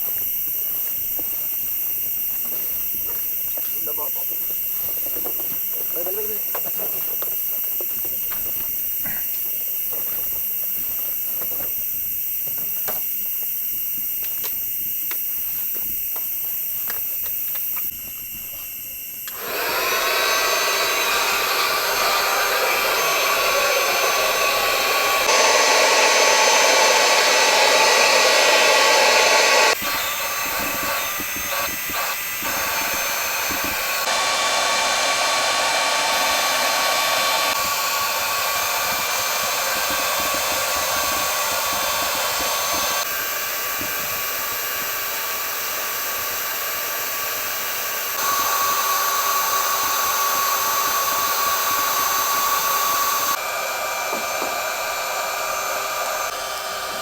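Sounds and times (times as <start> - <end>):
electric air pump whining: 0.0 - 57.0.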